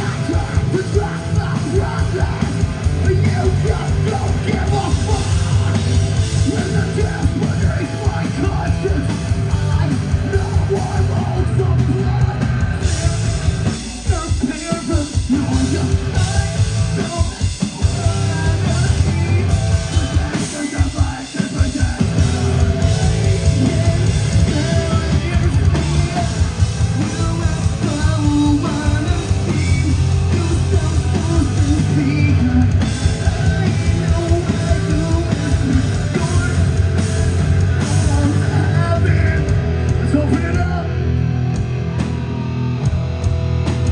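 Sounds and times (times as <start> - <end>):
electric guitar: 0.0 - 43.9
heavy rock band playing: 0.0 - 43.9
screamed and sung vocals: 0.0 - 43.9.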